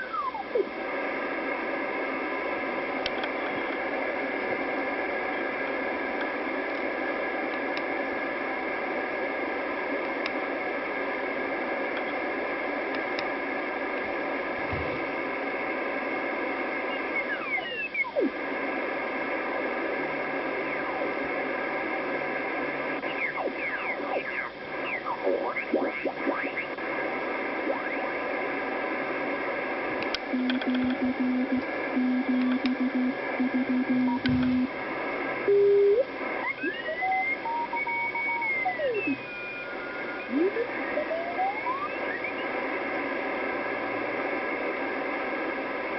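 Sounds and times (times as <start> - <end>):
radio band noise and hiss: 0.0 - 45.9.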